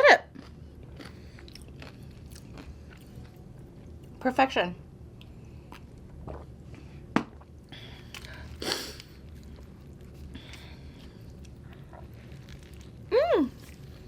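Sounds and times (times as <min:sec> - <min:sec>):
person chewing food: 0:00.3 - 0:04.2, 0:05.2 - 0:14.0.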